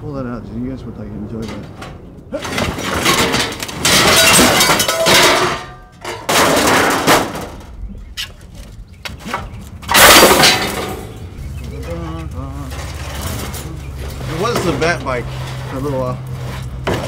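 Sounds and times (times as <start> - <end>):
scrap metal clattering and scraping: 1.3 - 8.6, 9.2 - 17.0.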